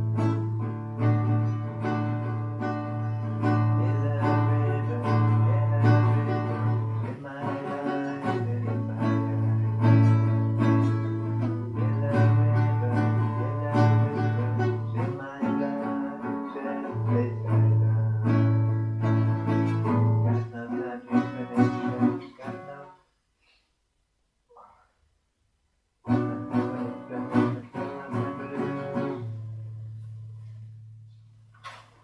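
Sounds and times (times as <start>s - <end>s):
guitar chords: 0.0s - 22.9s, 26.0s - 32.0s.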